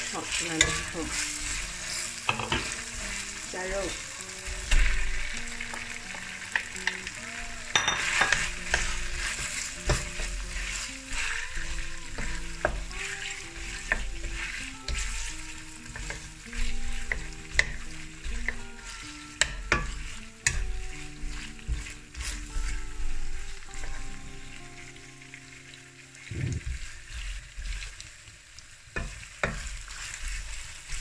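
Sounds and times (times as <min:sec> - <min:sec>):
spatula scraping wok: 0:00.0 - 0:28.0, 0:29.0 - 0:31.0
pork sizzling in hot oil: 0:00.0 - 0:31.0.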